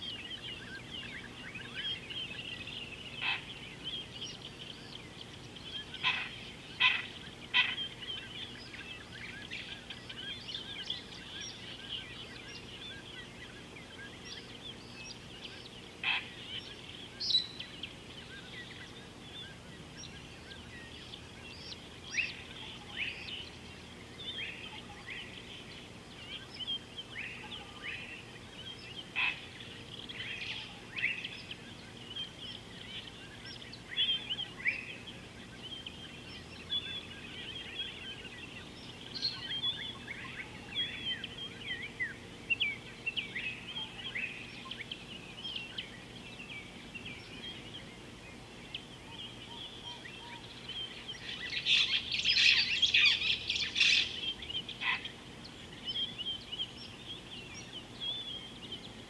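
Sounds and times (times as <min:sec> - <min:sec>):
birds chirping and twittering: 0:00.0 - 0:59.0
loud sharp bird calls: 0:00.0 - 0:59.0.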